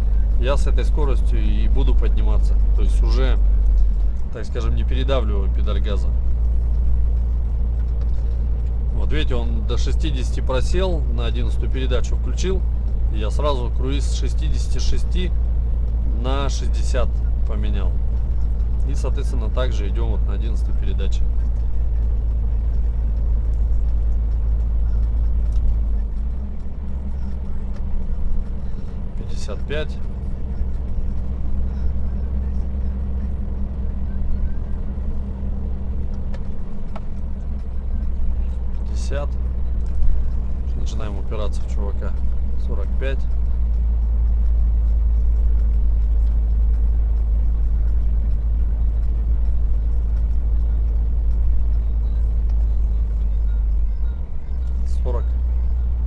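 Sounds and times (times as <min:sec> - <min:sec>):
road noise: 0:00.0 - 0:56.0
truck diesel engine droning: 0:00.0 - 0:56.0.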